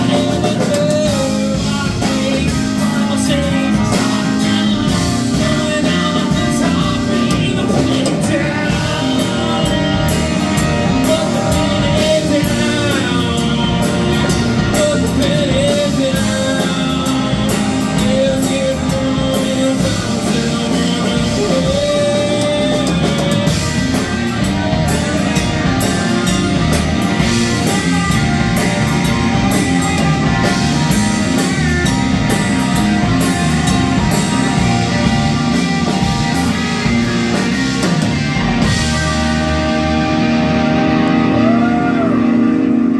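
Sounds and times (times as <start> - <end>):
held bending melody line: 0.0 - 42.9
live rock band: 0.0 - 42.9.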